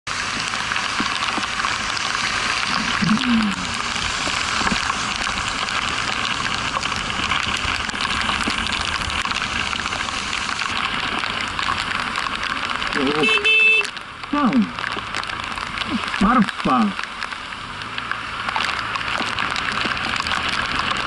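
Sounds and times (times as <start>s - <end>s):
rain and wind hiss: 0.1s - 21.0s.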